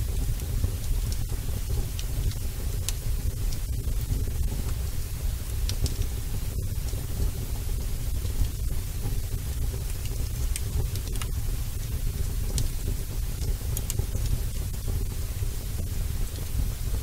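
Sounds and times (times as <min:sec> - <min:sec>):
constant hiss: 0:00.0 - 0:17.0
faint crackles: 0:00.0 - 0:17.0.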